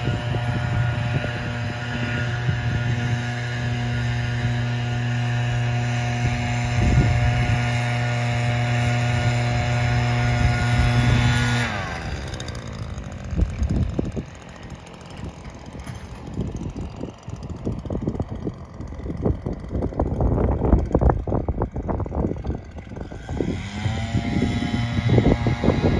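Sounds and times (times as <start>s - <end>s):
propeller airplane passing: 0.0s - 25.9s
wind rumble on microphone: 0.0s - 25.9s.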